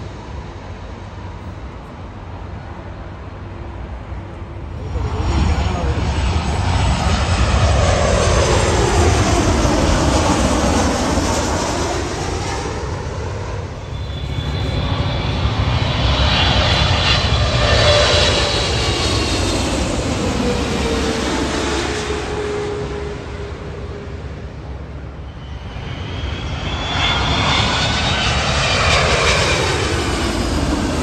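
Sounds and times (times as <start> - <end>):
jet airliners passing overhead: 0.0 - 31.0
jet engine dropping whine: 4.7 - 31.0.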